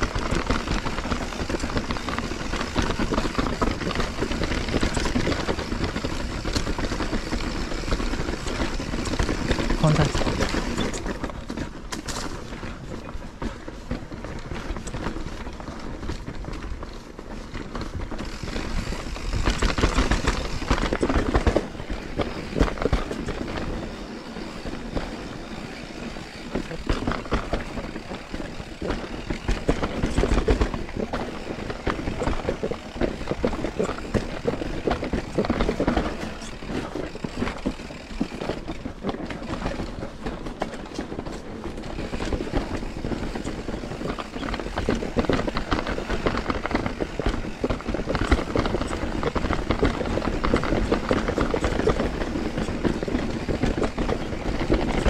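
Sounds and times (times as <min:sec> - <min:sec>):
bike rattling: 0:00.0 - 0:55.0
bike tyres rolling over ground: 0:00.0 - 0:55.0.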